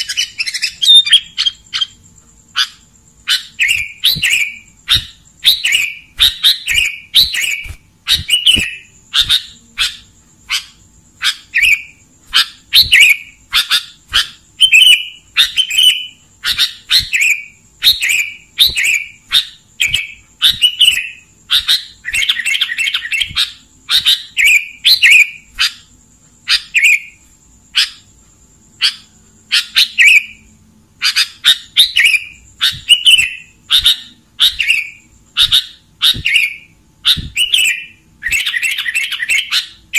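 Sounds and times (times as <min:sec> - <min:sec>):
bird singing short phrases: 0:00.0 - 0:28.1, 0:28.8 - 0:39.9.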